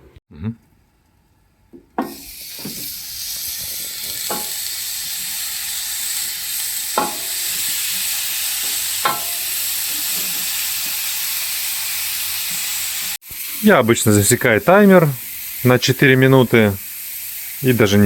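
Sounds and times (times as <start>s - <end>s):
patties sizzling in a pan: 2.0s - 18.0s.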